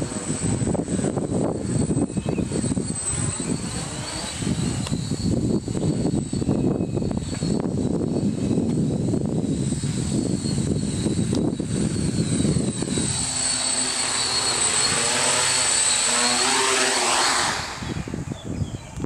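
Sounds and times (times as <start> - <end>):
drone motor whine: 0.0 - 19.0
propeller buzz: 0.0 - 19.0.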